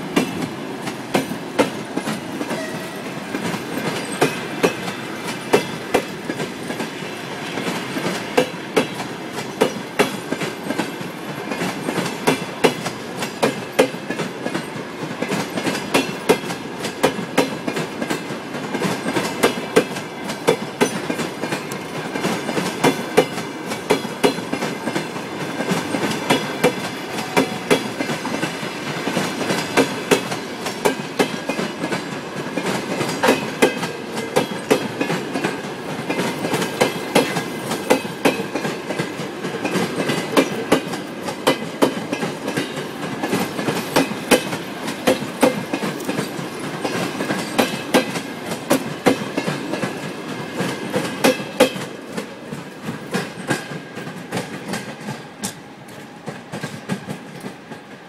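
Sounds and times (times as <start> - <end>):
train wheels clattering over rail joints: 0.1 - 58.0.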